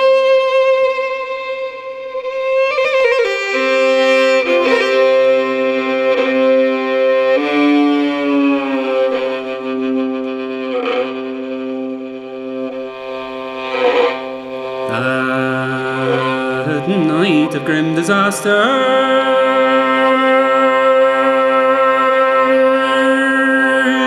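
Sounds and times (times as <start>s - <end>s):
fiddle playing slow air: 0.0s - 24.0s.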